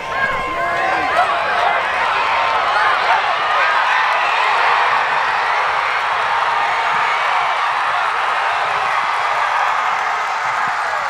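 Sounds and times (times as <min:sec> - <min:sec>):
crowd cheering and yelling: 0:00.0 - 0:11.0.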